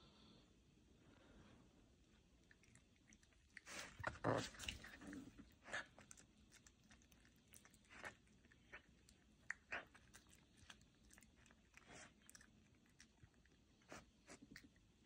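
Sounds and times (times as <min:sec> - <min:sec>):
animal chewing and crunching: 0:02.4 - 0:14.8.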